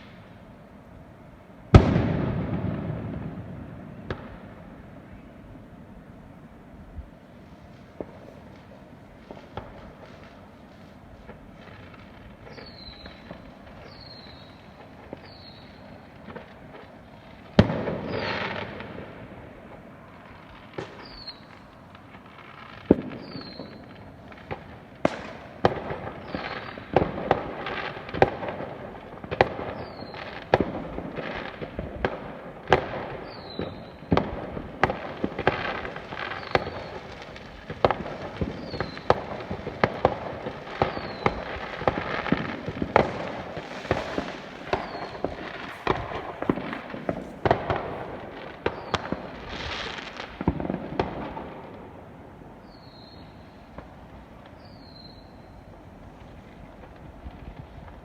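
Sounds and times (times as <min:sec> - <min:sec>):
fireworks bangs and crackles: 0:01.7 - 0:06.1, 0:07.0 - 0:58.0.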